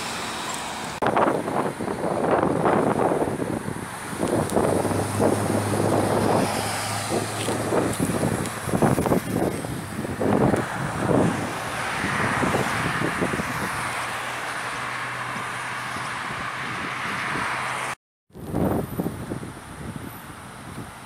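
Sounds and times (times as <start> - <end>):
road traffic passing: 0.0 - 21.0
wind buffeting microphone: 1.0 - 21.0.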